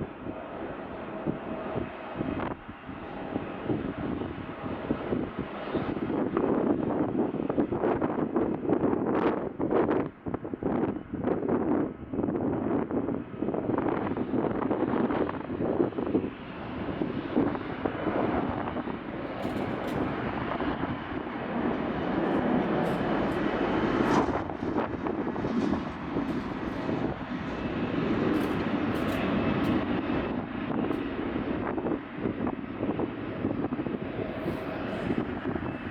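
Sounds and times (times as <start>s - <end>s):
jet engines at takeoff: 0.0s - 35.9s.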